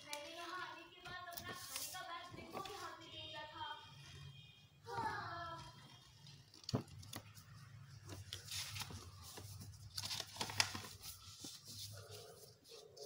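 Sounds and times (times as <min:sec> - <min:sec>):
paper rustling and crinkling: 0:00.0 - 0:03.2, 0:05.5 - 0:13.0.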